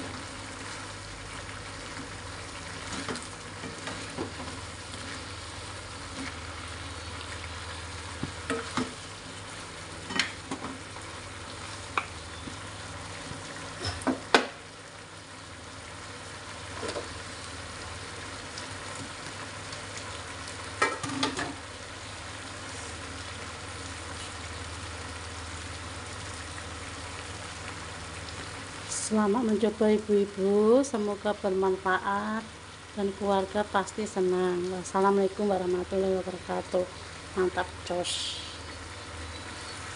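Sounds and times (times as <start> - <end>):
meat sizzling in a wok: 0.0 - 39.9.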